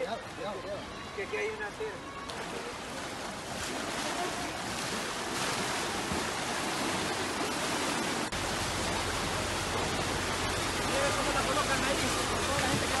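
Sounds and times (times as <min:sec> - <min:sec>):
floodwater rushing and splashing: 0:00.0 - 0:13.0.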